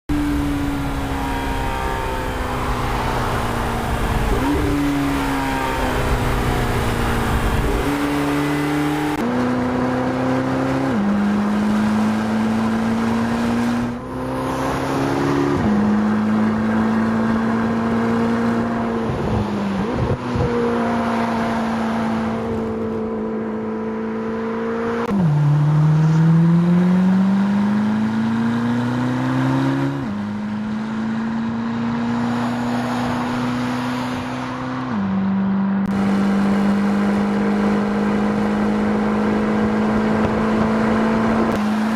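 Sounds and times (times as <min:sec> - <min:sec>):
sports car engine revving: 0:00.1 - 0:41.9.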